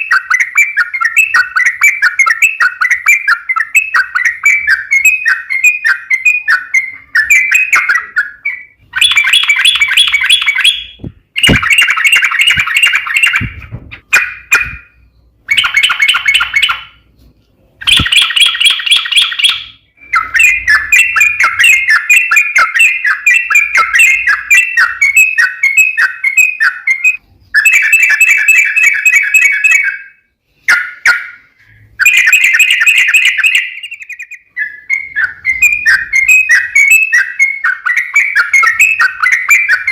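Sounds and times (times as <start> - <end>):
bulbul chattering song: 0.0 - 17.1, 17.8 - 39.9.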